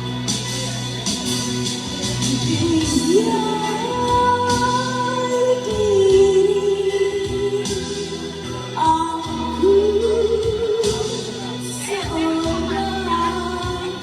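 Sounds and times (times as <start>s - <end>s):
instrumental backing: 0.0s - 14.0s.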